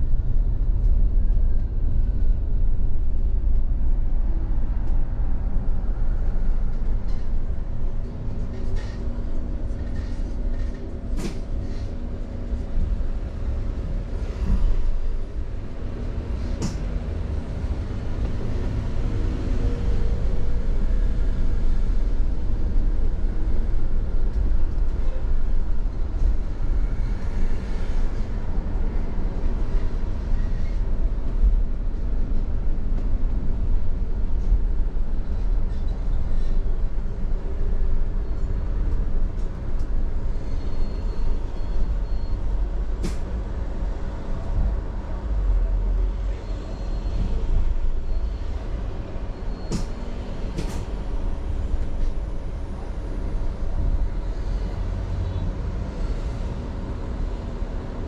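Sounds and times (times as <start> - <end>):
moving vehicle rumble: 0.0 - 58.0.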